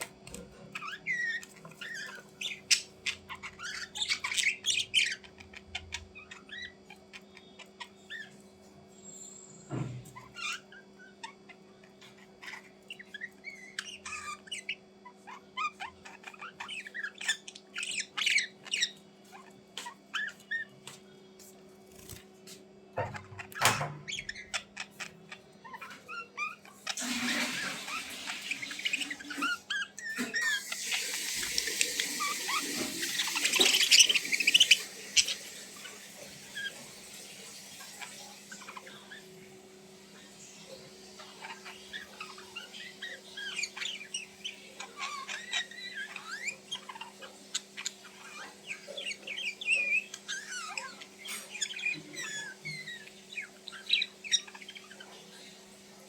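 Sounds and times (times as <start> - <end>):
small bird chirping: 0.0 - 56.0.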